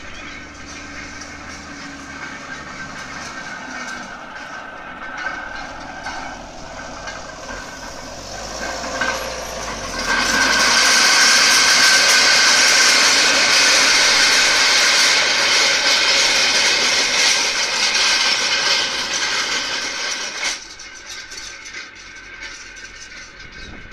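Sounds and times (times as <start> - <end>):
harrow tines scraping ground: 0.0 - 23.9
tractor engine running: 0.0 - 23.9.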